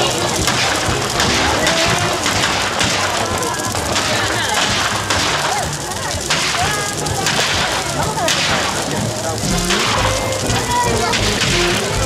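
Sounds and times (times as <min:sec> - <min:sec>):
bonfire crackling and popping: 0:00.0 - 0:12.0
crowd voices: 0:00.0 - 0:12.0.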